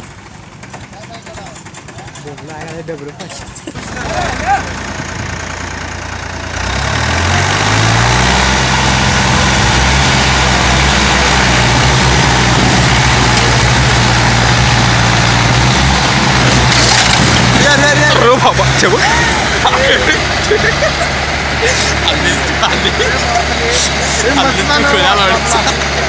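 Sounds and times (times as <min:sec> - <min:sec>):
tractor engines revving under load: 0:00.0 - 0:26.0.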